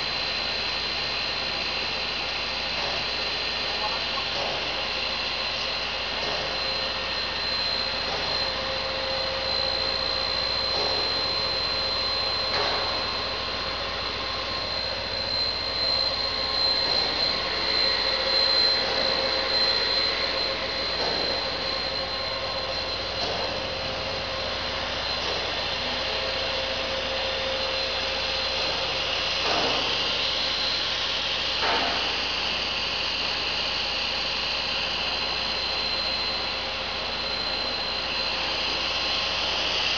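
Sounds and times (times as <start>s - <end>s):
high machine whine: 0.0s - 39.9s
machinery running: 0.0s - 39.9s.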